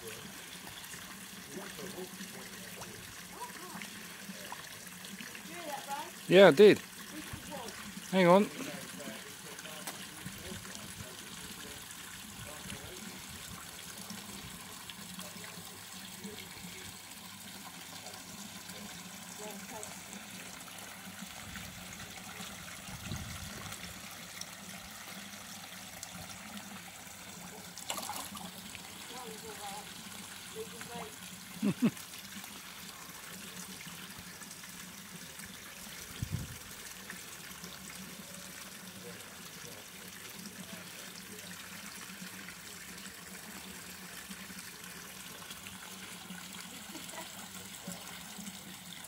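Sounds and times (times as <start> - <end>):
waterfall splashing into pond: 0.0 - 49.0.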